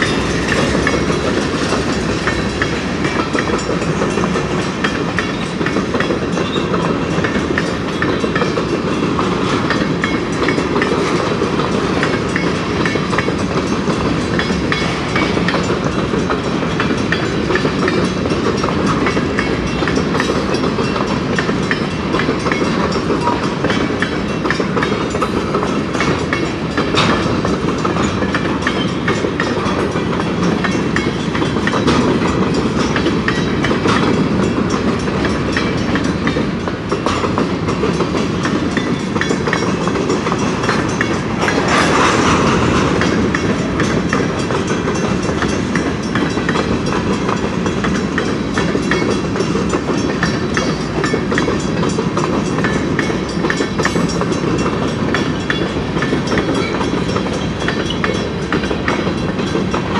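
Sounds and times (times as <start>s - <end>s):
freight train wheels rumbling: 0.0s - 59.9s
wheels clicking over track: 0.0s - 59.9s.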